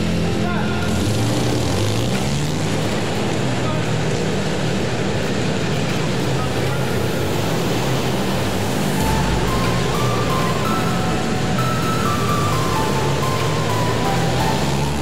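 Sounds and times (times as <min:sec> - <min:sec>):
small motorbike engines droning: 0:00.0 - 0:15.0.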